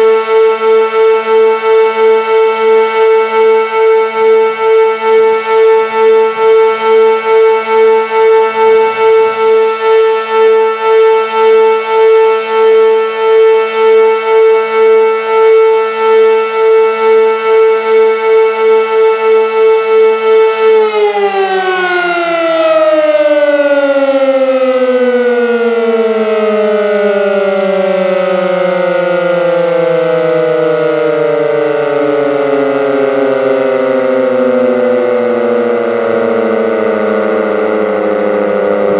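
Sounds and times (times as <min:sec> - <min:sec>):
tornado siren wailing: 0:00.0 - 0:38.9.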